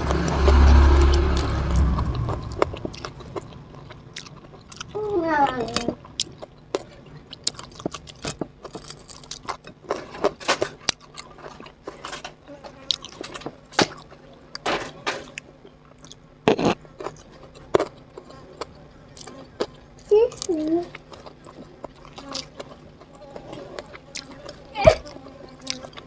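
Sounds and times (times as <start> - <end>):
person chewing food: 1.8 - 12.1, 12.7 - 14.3, 15.3 - 26.0.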